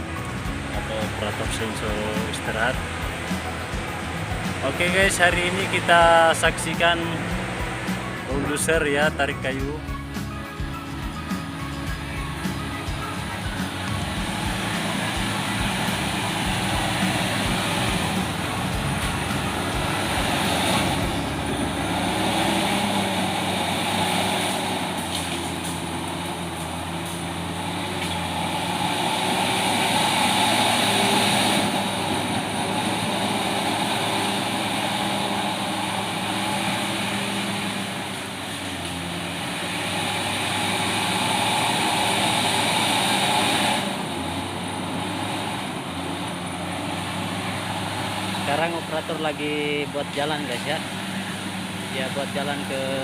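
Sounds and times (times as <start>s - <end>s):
bulldozer diesel engine under load: 0.0s - 53.0s.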